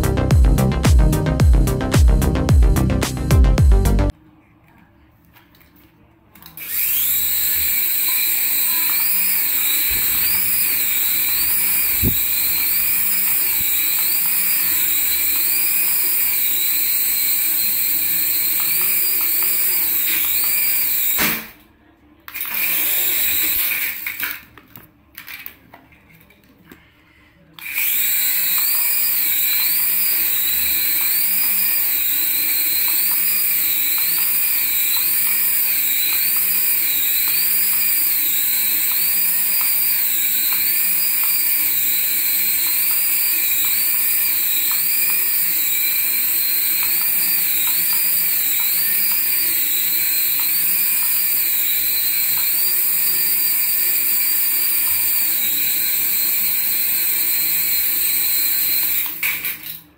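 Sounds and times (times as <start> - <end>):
toy helicopter motors whining: 6.4 - 21.6, 22.3 - 24.4, 27.6 - 59.9.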